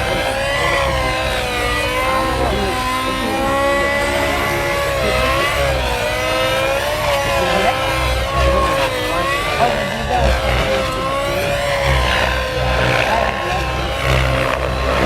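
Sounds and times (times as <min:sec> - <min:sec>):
low rotor rumble: 0:00.0 - 0:15.0
model helicopter motor whine: 0:00.0 - 0:15.0.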